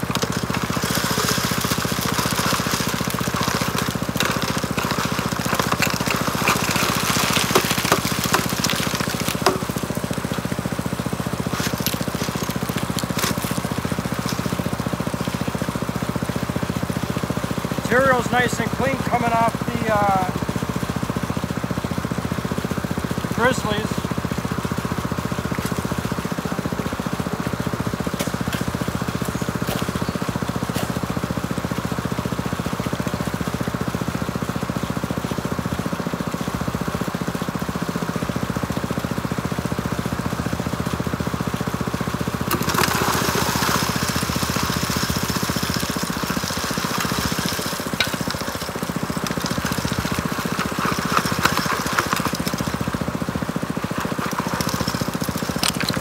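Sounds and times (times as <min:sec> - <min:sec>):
small water pump engine running: 0:00.0 - 0:56.0.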